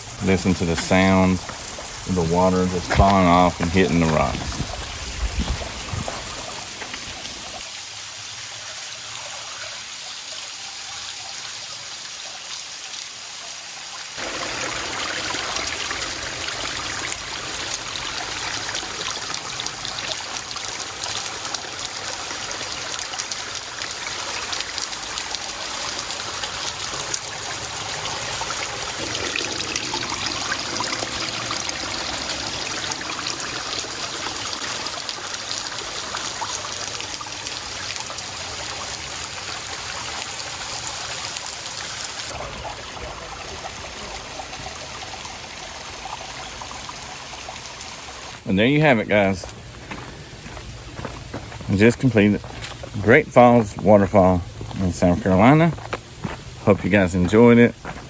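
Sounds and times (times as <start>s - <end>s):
waterfall splashing onto rocks: 0.7s - 48.4s.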